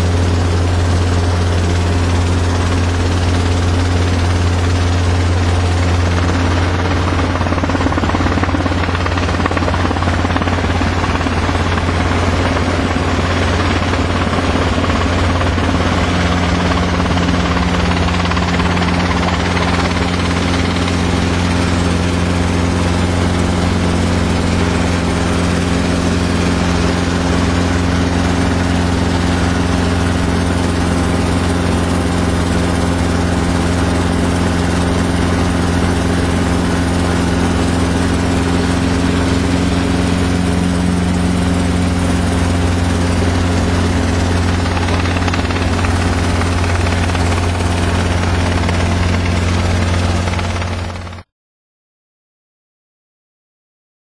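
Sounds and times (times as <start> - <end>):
helicopter engine and rotor drone: 0.0 - 51.3.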